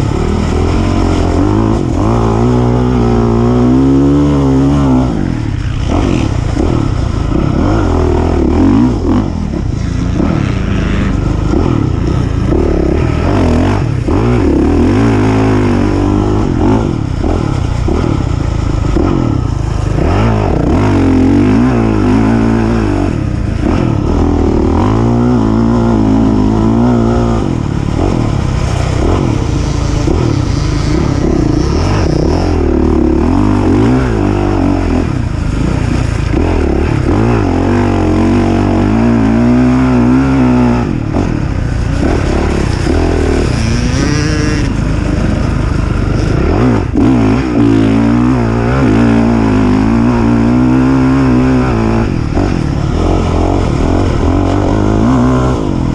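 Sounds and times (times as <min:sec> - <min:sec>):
racing engine revving: 0:00.0 - 0:55.9.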